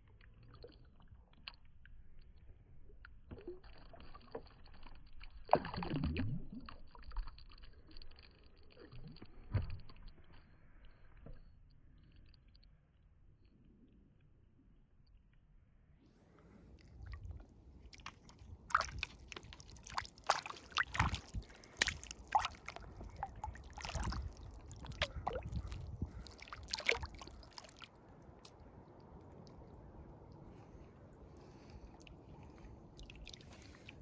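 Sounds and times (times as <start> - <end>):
water sloshing and splashing: 0.0 - 11.5, 16.4 - 34.0.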